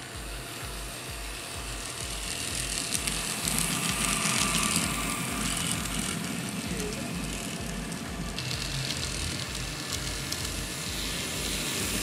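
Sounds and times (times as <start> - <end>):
background music with steady beat: 0.0 - 12.0
model train wheels clicking: 0.0 - 12.0.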